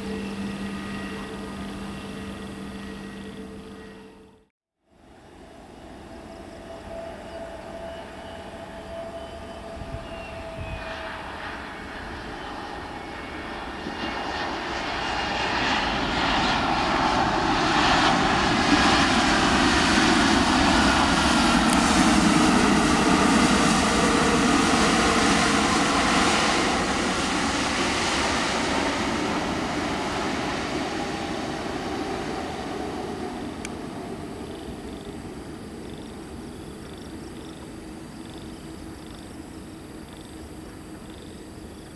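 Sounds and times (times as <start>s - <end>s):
jet engines whining on landing: 0.0s - 4.5s, 5.1s - 41.9s.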